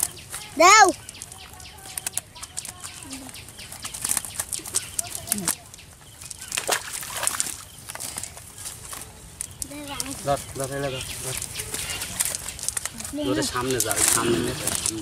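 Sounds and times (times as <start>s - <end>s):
fish flapping and slapping: 0.0s - 10.4s, 11.2s - 15.0s.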